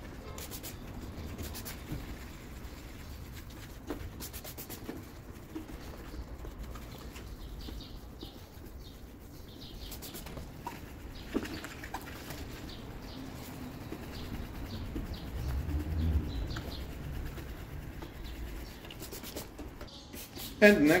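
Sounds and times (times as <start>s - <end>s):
wet sanding rubbing: 0.0s - 21.0s.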